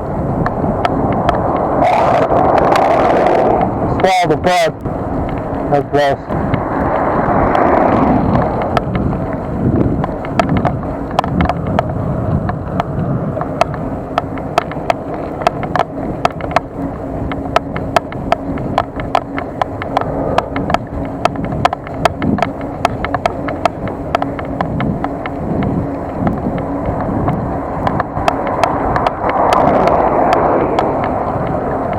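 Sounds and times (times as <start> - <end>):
bicycle tyres and wind rumble: 0.0 - 31.9
sharp bicycle clicks: 0.0 - 31.9.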